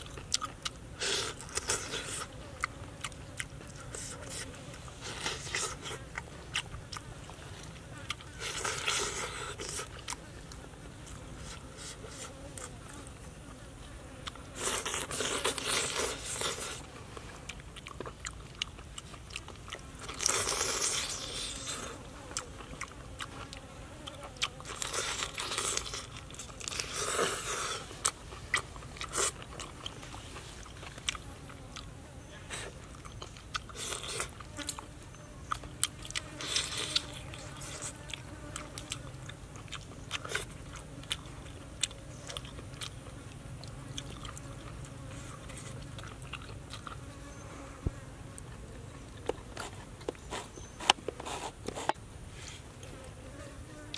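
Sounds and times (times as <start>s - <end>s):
chewing and crunching bones: 0.0s - 52.0s.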